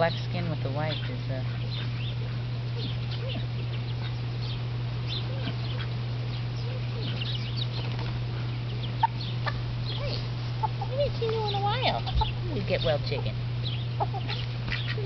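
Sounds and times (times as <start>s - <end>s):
steady low hum: 0.0s - 15.0s
hen clucking softly: 0.8s - 12.8s, 13.8s - 15.0s.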